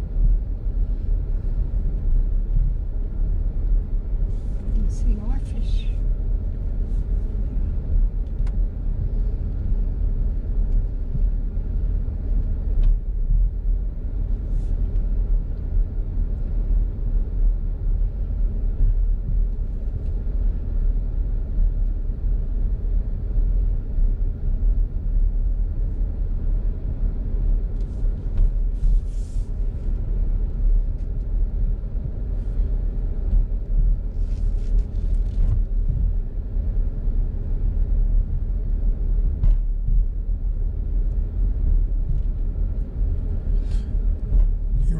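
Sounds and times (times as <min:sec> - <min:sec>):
car cabin road noise: 0:00.0 - 0:44.9.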